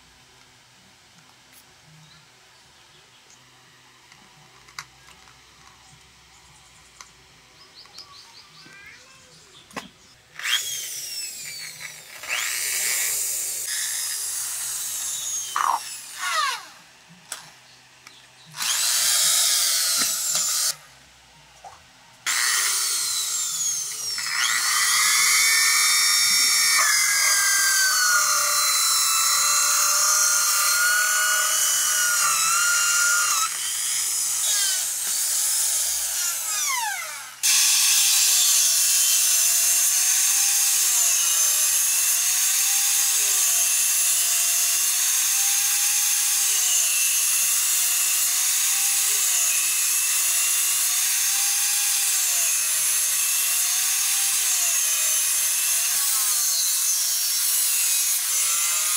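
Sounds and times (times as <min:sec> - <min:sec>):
power tool whining: 0:09.6 - 0:20.9, 0:22.2 - 0:58.9.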